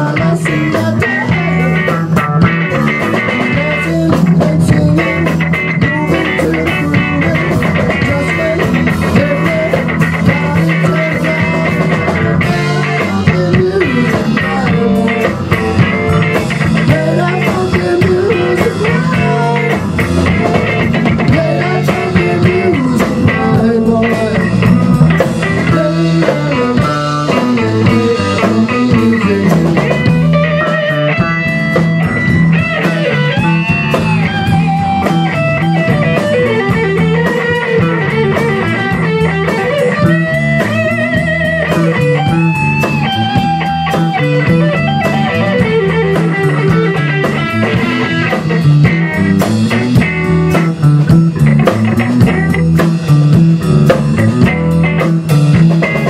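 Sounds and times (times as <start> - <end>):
bass guitar: 0.0 - 56.0
drum kit: 0.0 - 56.0
electric guitar bending notes: 0.0 - 56.0.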